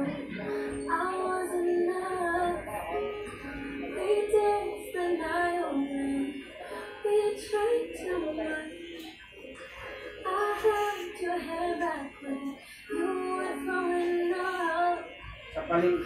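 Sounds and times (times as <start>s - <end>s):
high singing voice: 0.0s - 16.0s.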